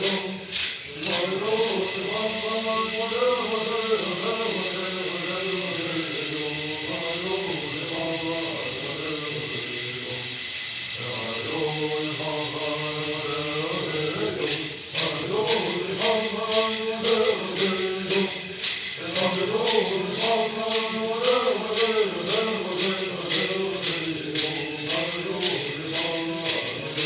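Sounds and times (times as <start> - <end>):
men chanting together: 0.0 - 10.4, 11.0 - 27.0
gourd rattles shaking: 0.0 - 27.0.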